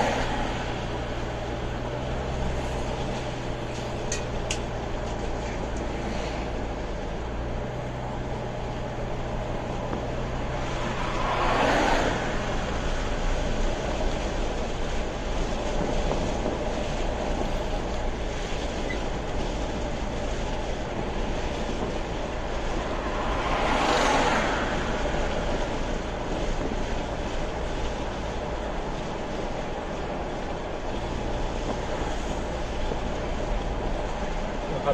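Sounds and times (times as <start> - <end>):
car road noise at highway speed: 0.0 - 34.9.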